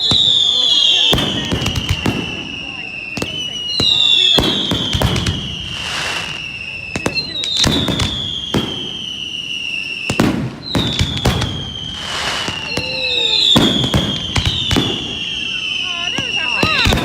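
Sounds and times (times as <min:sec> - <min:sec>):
fireworks bangs: 0:00.0 - 0:17.0
fireworks whistles sliding down: 0:00.0 - 0:17.0.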